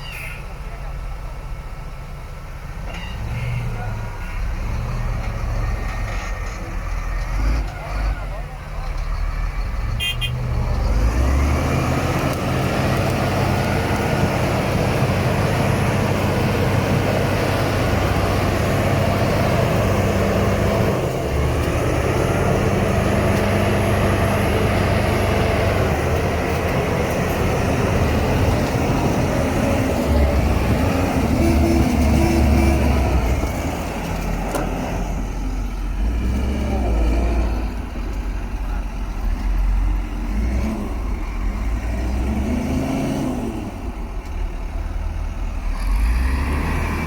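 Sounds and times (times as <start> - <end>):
heavy diesel engine running: 3.7 - 47.0.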